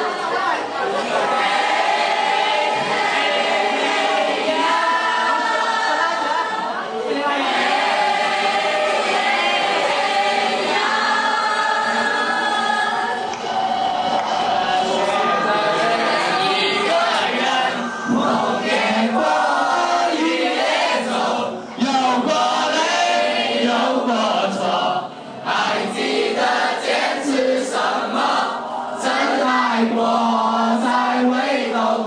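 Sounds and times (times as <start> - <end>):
children singing in unison: 0.8 - 32.0.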